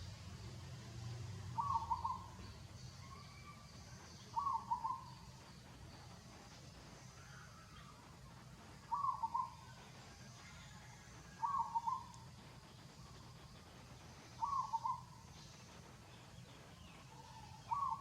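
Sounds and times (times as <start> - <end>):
low background hum: 0.0 - 18.0
bird calling: 1.5 - 6.1, 7.1 - 18.0.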